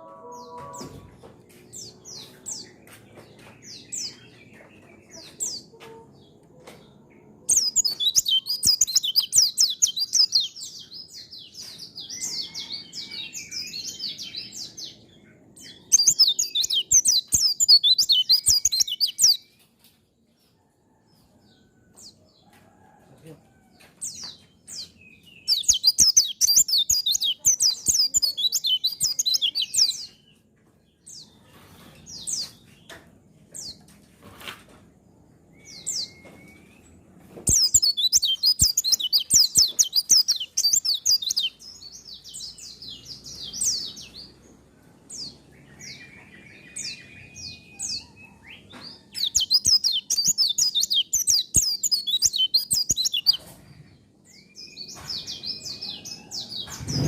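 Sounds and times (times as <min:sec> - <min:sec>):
bird twittering song: 0:00.0 - 0:19.6, 0:24.1 - 0:30.4, 0:35.5 - 0:44.4, 0:45.1 - 0:57.0.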